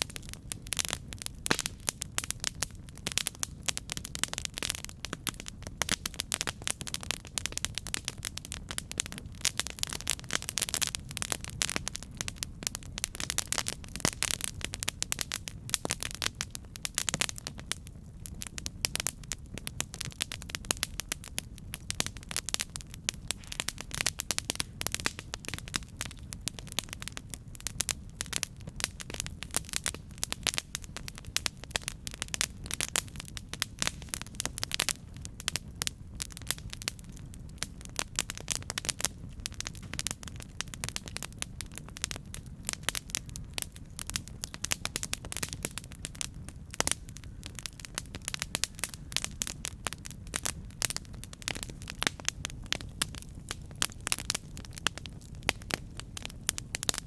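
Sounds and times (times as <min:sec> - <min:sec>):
burning wood crackling: 0:00.0 - 0:57.0
low rumble of flames: 0:00.0 - 0:57.0.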